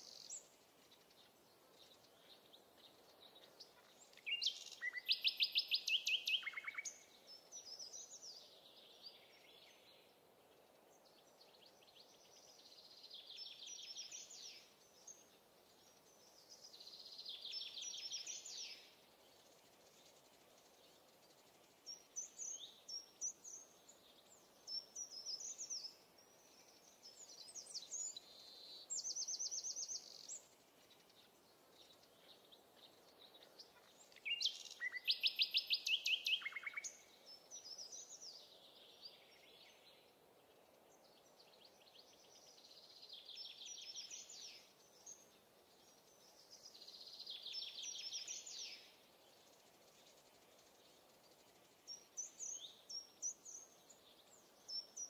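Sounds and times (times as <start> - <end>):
faint background hiss: 0.0 - 55.0.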